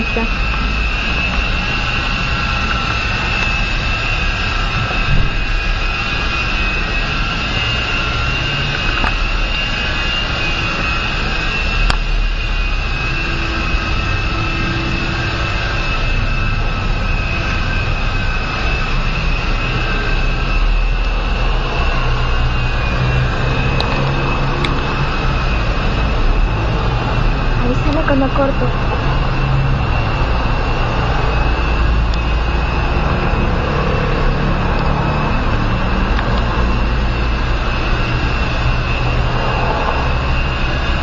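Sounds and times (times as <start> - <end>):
electric motors whining: 0.0 - 41.0
rotors whirring: 0.0 - 41.0.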